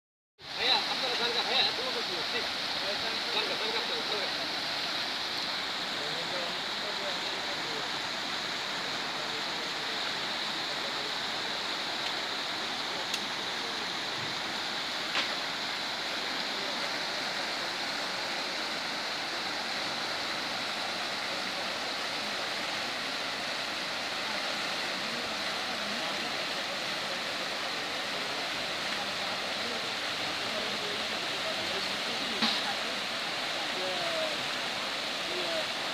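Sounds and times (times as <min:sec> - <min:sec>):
floodwater rushing and churning: 0:00.4 - 0:35.9.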